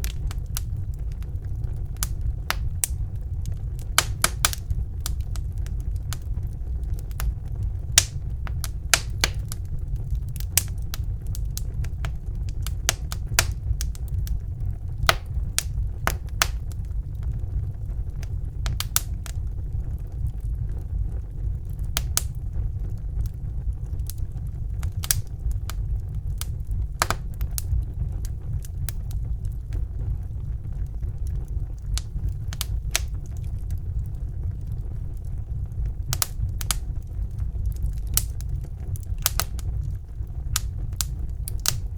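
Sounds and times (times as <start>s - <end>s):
logs crackling and popping: 0.0s - 41.9s
low rumble of flames: 0.0s - 41.9s.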